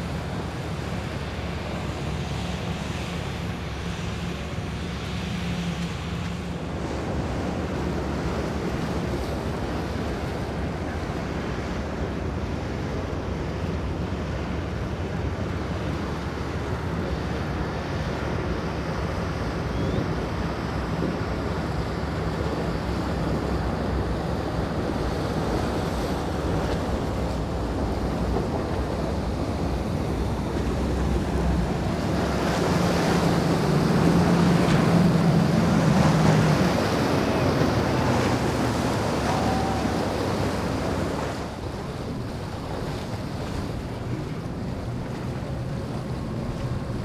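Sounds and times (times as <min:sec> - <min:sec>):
powerboat engines running: 0:00.0 - 0:47.0
water spray and surf: 0:00.0 - 0:47.0.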